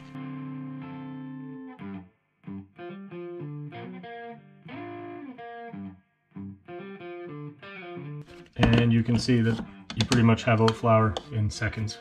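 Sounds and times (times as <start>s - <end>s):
plucked guitar melody: 0.0s - 11.9s.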